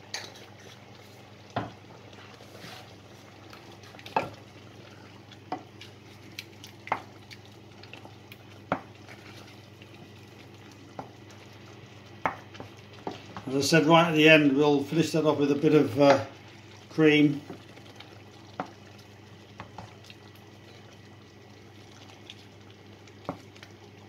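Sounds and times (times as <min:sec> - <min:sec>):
curry bubbling: 0:00.1 - 0:24.0.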